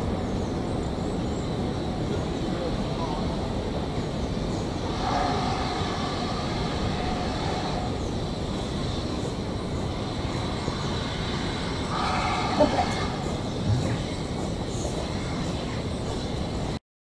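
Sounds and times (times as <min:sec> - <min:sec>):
steam train rumbling and hissing: 0:00.0 - 0:16.8.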